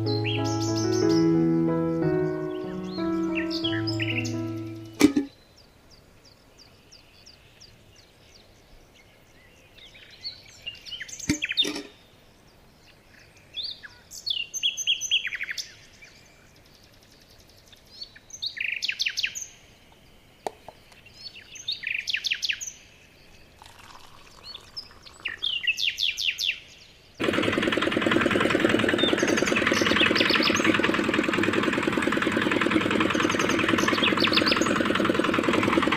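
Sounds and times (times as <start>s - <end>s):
small birds chirping: 0.0s - 27.2s, 28.8s - 31.5s, 32.3s - 35.9s.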